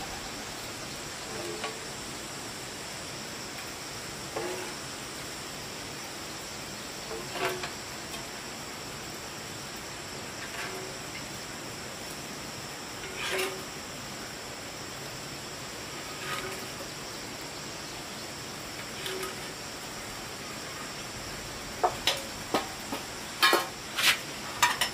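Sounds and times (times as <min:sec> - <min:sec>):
insects chirring: 0:00.0 - 0:24.9.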